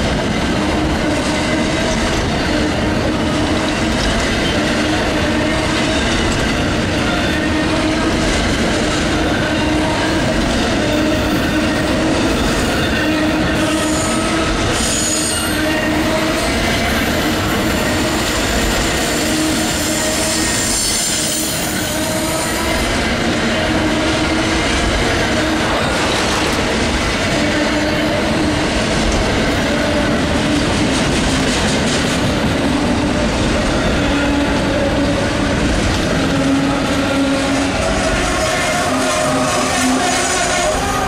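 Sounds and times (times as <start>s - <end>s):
squealing train wheels: 0.0s - 41.0s
train wheels rolling on rails: 0.0s - 41.0s.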